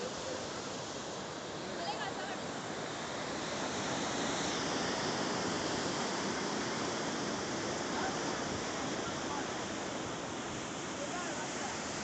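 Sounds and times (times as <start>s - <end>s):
waves breaking on rocky shore: 0.0s - 12.0s.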